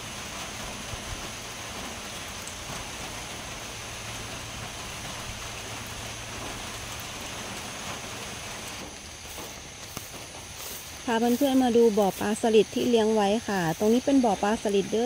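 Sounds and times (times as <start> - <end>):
faint water drips: 0.0 - 15.0
steady rain falling: 0.0 - 15.0.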